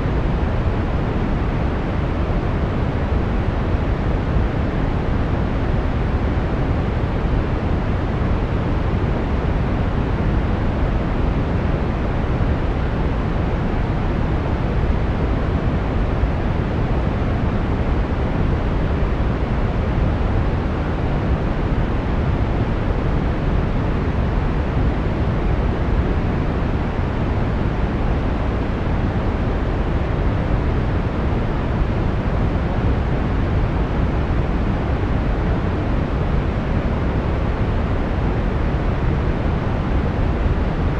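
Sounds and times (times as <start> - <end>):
brown noise: 0.0 - 40.9.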